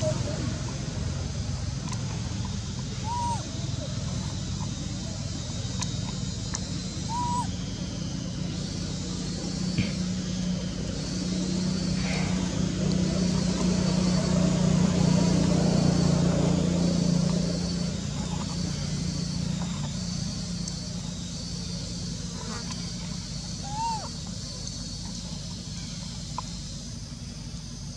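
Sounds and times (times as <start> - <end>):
outdoor background noise: 0.0 - 27.9
vehicle engine humming: 0.0 - 27.9.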